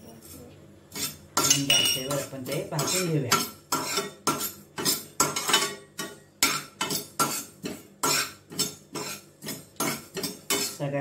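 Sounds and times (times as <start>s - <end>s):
spoon scraping a pan: 0.0s - 10.9s.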